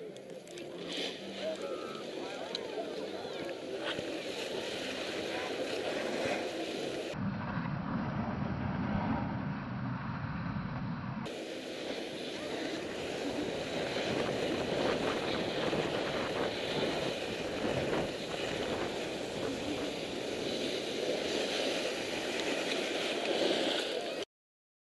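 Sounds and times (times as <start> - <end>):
skis scraping over snow: 0.0 - 7.2, 11.3 - 24.2
wind on microphone: 3.8 - 23.9.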